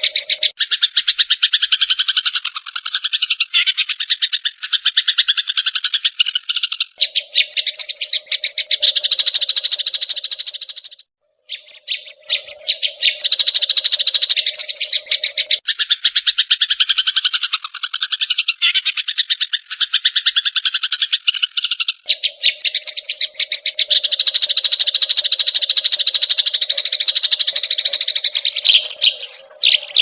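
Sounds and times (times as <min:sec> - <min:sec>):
sparrows chirping: 0:00.0 - 0:30.0.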